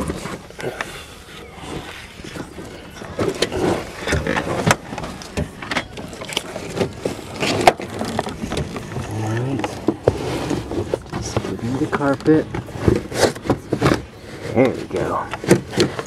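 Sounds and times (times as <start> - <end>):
carpet rustling and scraping: 0.0 - 16.0.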